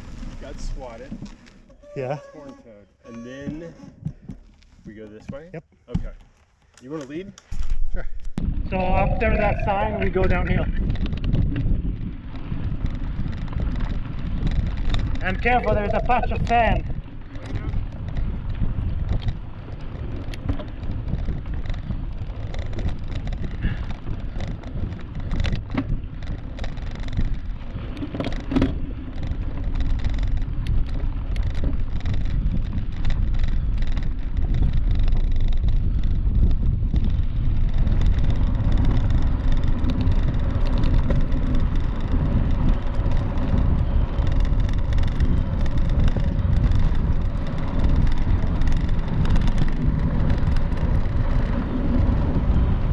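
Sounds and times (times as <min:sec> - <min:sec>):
mountain bike rushing downhill: 0:00.0 - 0:05.4, 0:06.3 - 0:52.9
bike clicks and rattles: 0:00.0 - 0:52.9.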